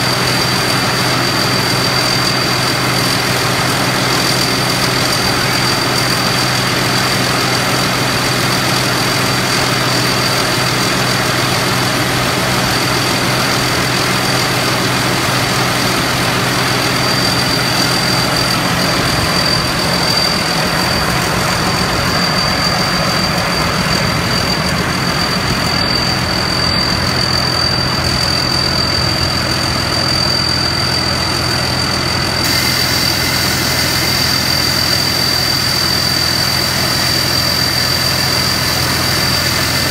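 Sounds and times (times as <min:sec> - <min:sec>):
diesel engine rumble: 0:00.0 - 0:39.9
high-pitched whine: 0:00.0 - 0:39.9.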